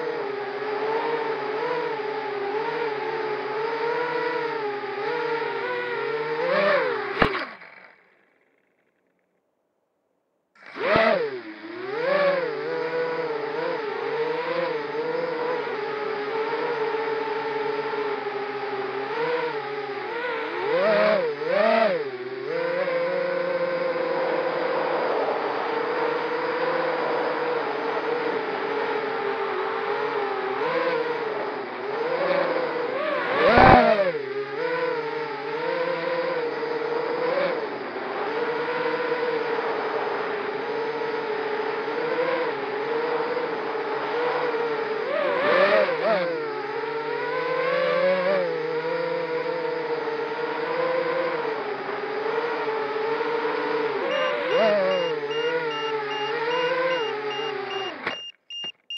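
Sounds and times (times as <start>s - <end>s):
quadcopter motors whining: 0.0s - 8.7s, 10.6s - 58.9s.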